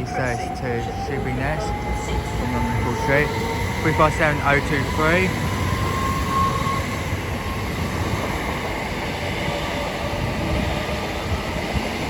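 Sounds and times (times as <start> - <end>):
electric train running with whine: 0.0 - 12.0.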